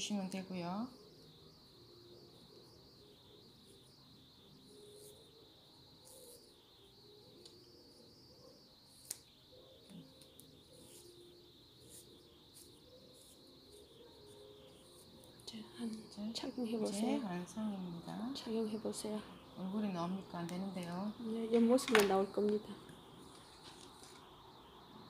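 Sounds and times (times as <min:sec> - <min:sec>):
faint high-pitched hiss: 0:00.0 - 0:25.0.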